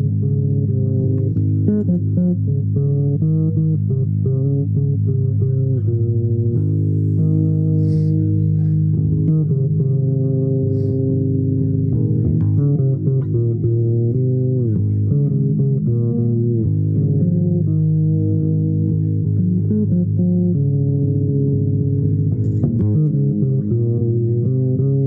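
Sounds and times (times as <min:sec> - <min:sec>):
plucked string instrument: 0:00.0 - 0:25.0.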